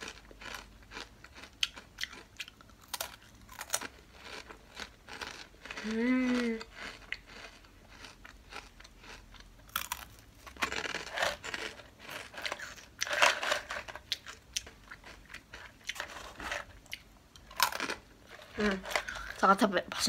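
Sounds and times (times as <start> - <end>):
crunching potato chips: 0.0 - 19.4.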